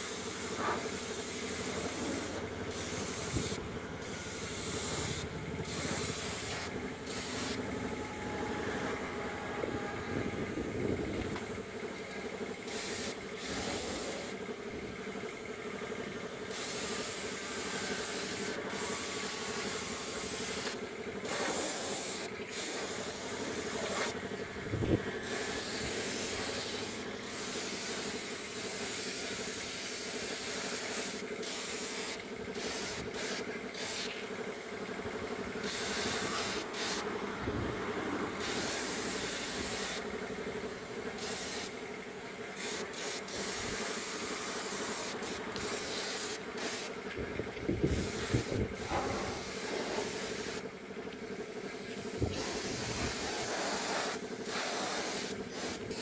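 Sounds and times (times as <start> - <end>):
spray gun hissing: 0.0 - 8.0, 12.0 - 14.6, 15.6 - 37.3, 38.2 - 47.1, 47.8 - 56.0
steady machine hum: 0.0 - 49.5.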